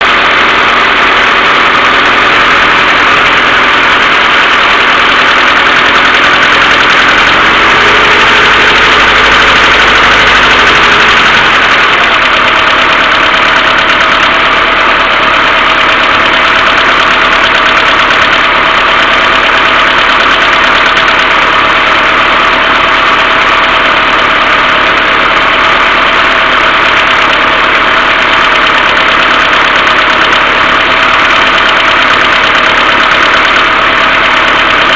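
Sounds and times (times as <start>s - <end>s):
car engine idling with knocking: 0.0s - 34.9s
continuous engine hum: 0.0s - 34.9s.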